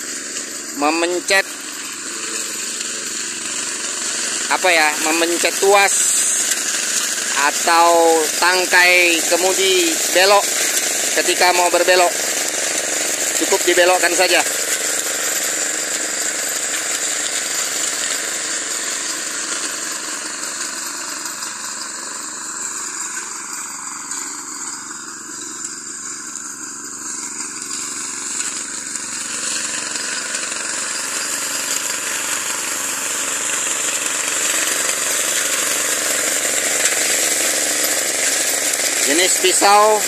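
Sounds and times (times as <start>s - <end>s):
blades cutting through weeds: 0.0s - 40.0s
brush cutter engine running: 0.0s - 40.0s.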